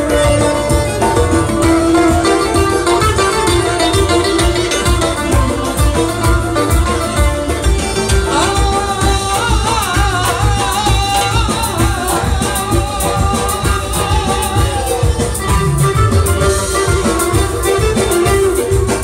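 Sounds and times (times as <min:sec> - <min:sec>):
live band with steady beat: 0:00.0 - 0:19.0
wavering lead melody: 0:00.0 - 0:19.0.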